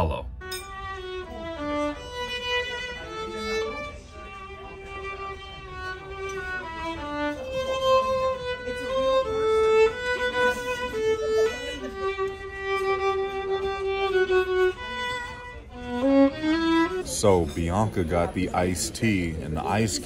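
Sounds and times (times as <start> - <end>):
solo violin melody: 0.4 - 20.0.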